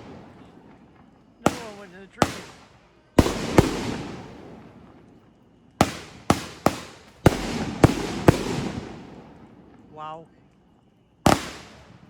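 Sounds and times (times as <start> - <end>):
fireworks bangs: 0.0 - 10.2, 11.2 - 12.0.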